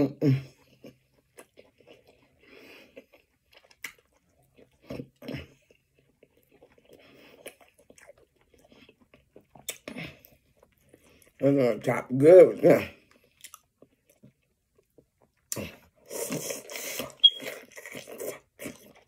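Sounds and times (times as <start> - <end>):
person chewing food: 0.0 - 11.4, 12.9 - 19.0.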